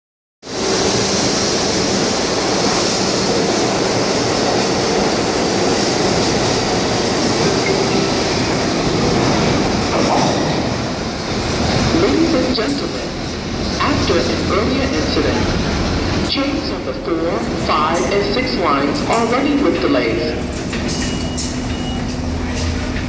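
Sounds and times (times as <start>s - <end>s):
subway train wheels rushing on rail: 0.4s - 23.0s.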